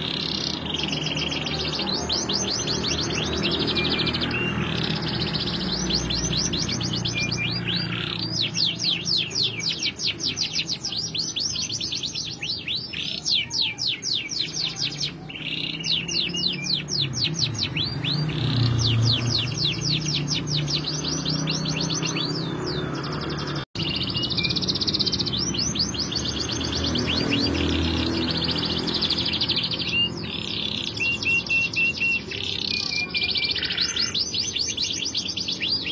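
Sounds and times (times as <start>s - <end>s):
canary singing: 0.0s - 35.9s.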